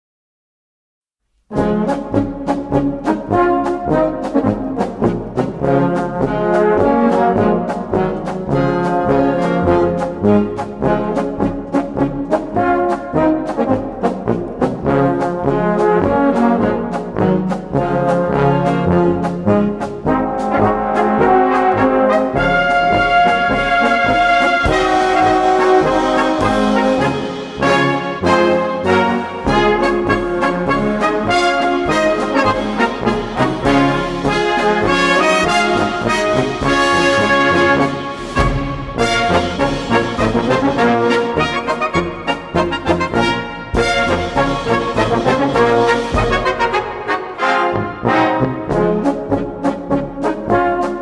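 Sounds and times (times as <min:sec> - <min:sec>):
brass band playing polka: 0:01.5 - 0:51.0.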